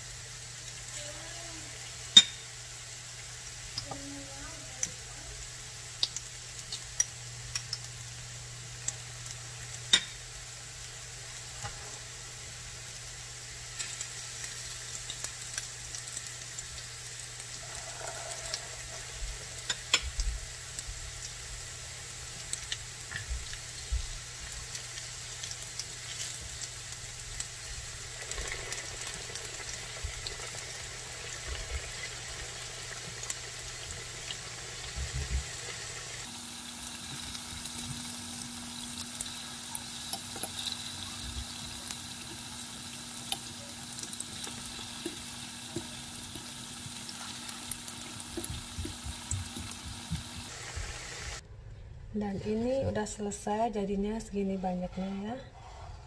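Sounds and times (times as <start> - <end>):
food sizzling in oil: 0.0 - 51.4.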